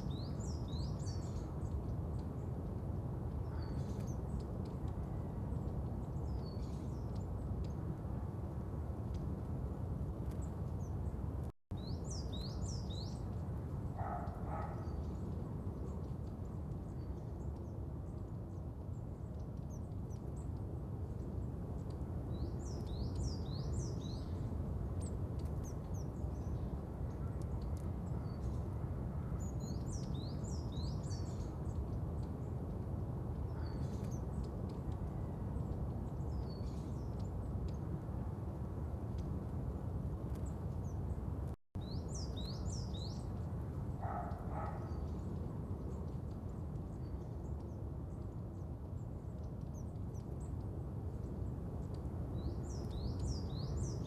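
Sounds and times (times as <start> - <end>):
birds chirping: 0.0 - 9.5, 10.2 - 38.0, 40.0 - 54.0.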